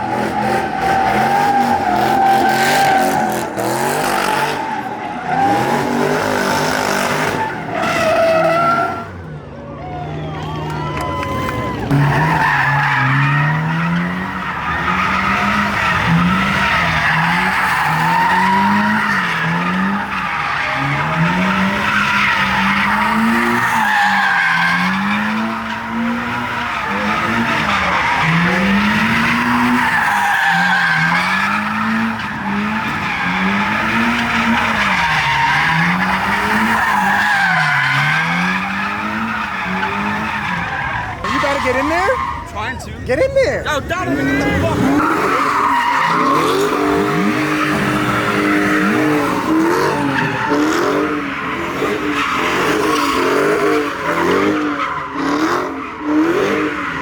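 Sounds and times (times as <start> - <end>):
car engine revving: 0.0 - 9.2, 11.3 - 57.0
car tyres squealing: 0.0 - 57.0.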